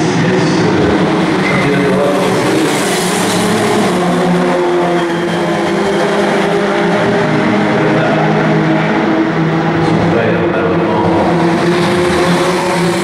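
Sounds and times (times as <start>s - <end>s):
race car engines running hard: 0.0s - 13.0s.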